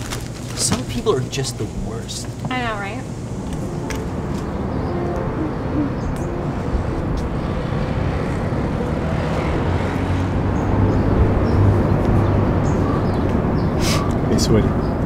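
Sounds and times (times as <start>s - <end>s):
low engine hum: 0.0s - 15.0s
rumble of passing vehicles: 0.0s - 15.0s.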